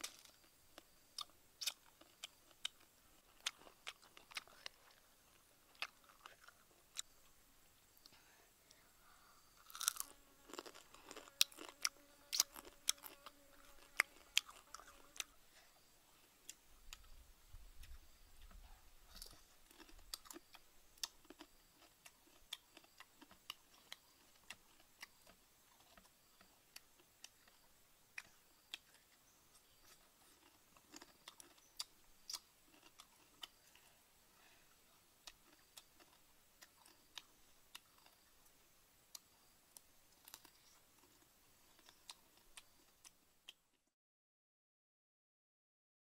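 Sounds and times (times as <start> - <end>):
crunchy chewing: 0.0 - 8.1, 9.5 - 17.2, 17.8 - 34.6, 35.2 - 38.4, 39.1 - 43.6.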